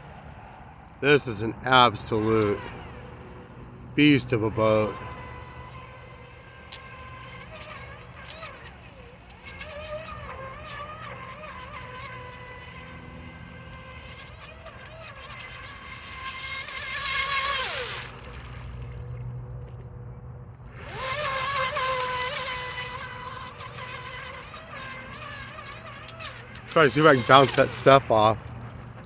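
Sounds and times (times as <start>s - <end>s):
rc boat electric motor whine: 0.0s - 29.0s.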